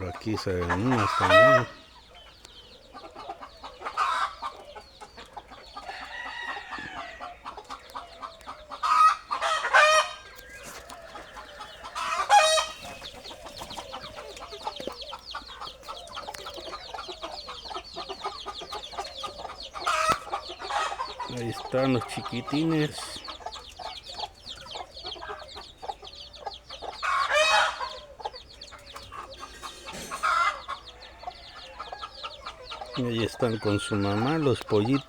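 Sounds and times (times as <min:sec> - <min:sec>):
loud hen calls: 0:00.0 - 0:02.2, 0:02.8 - 0:35.0
chicks peeping: 0:00.0 - 0:35.0
hens clucking: 0:00.0 - 0:35.0.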